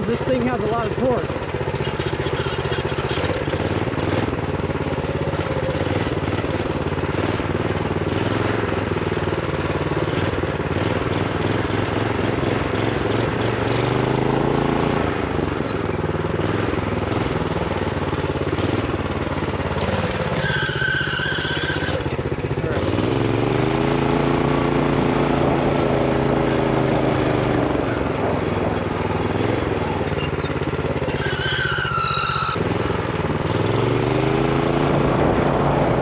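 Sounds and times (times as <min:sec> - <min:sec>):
minibike engine running: 0:00.0 - 0:36.0.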